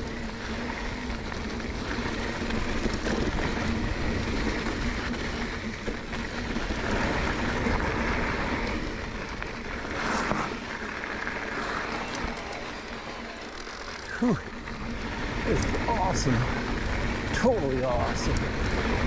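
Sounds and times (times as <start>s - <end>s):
bike tyres rumbling on dirt: 0.0s - 19.0s.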